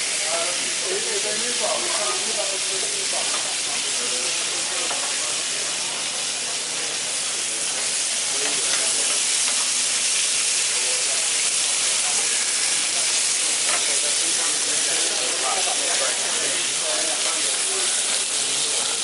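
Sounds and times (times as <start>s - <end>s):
meat sizzling on a griddle: 0.0s - 19.0s.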